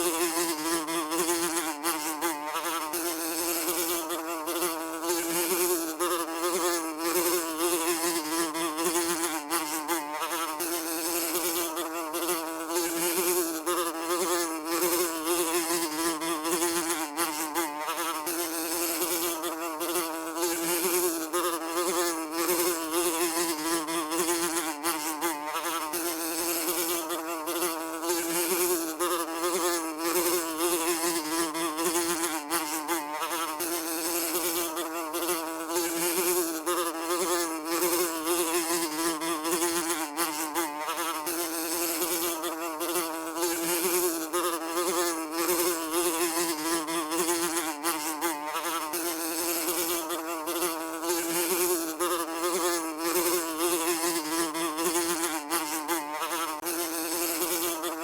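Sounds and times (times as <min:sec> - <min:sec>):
fly buzzing: 0:00.0 - 0:58.0.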